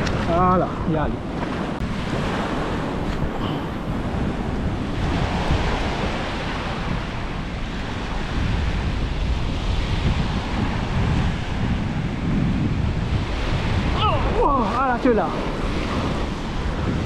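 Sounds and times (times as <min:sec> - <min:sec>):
surf breaking on a beach: 0:00.0 - 0:17.0
wind rumbling on microphone: 0:00.0 - 0:17.0.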